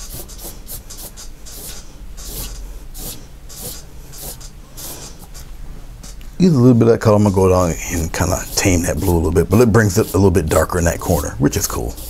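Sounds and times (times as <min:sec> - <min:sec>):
paintbrush swishing on paper: 0:00.0 - 0:05.5, 0:07.2 - 0:12.0.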